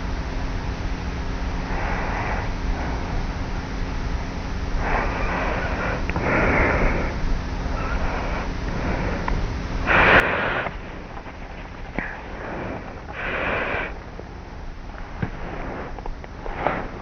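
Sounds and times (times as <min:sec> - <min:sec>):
tape hiss: 0:00.0 - 0:17.0.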